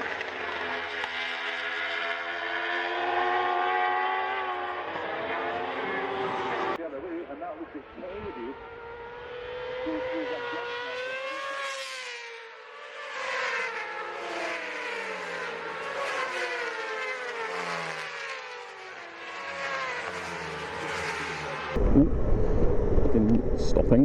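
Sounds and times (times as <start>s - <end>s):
motorcycle engine revving: 0.0s - 6.8s, 7.6s - 23.8s.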